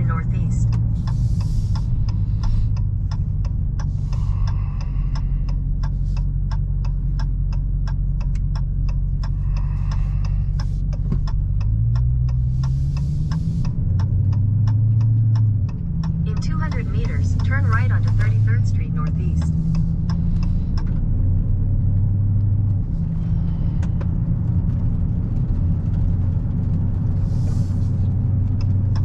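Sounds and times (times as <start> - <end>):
car engine humming: 0.0 - 29.0
turn signal ticking: 0.0 - 29.0.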